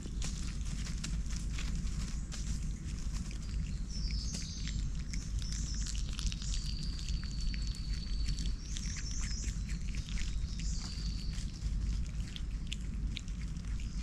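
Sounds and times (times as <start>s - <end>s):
birds chirping: 0.0s - 14.0s
dry leaves crackling: 0.0s - 14.0s
low rumble: 0.0s - 14.0s.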